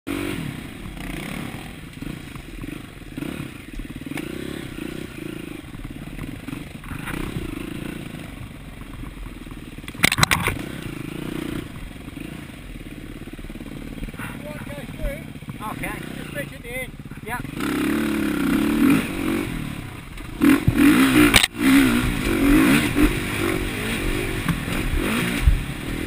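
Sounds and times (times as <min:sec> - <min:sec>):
bike rattling and scraping: 0:00.1 - 0:26.0
dirt bike engine revving: 0:00.1 - 0:26.0.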